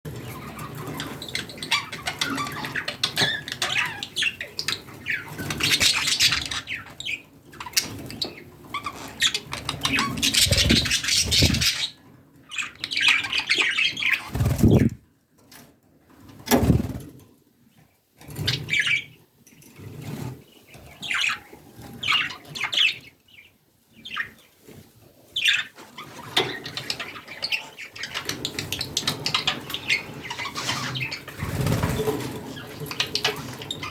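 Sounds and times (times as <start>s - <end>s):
budgerigars chirping and chattering: 0.1s - 15.0s, 18.4s - 24.8s, 25.4s - 33.9s.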